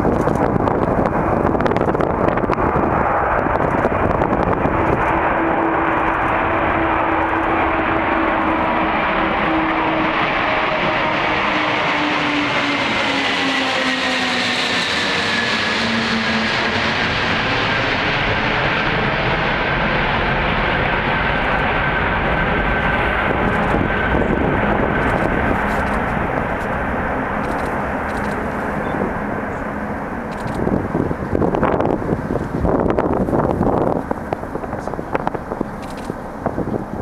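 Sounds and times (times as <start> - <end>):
jet roar passing overhead: 0.0 - 37.0.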